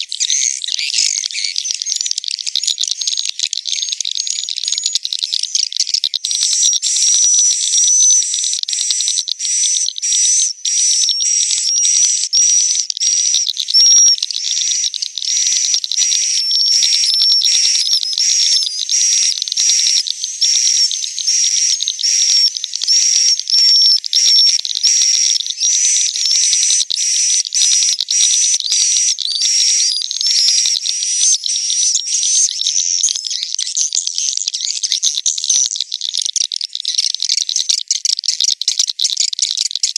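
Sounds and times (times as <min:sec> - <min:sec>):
swiftlets twittering and chirping: 0:00.0 - 0:39.9.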